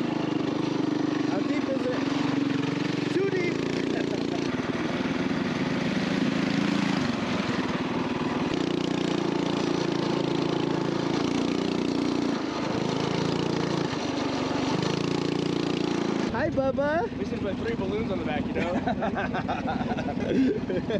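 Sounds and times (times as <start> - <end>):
mini bike engine running: 0.0 - 20.9.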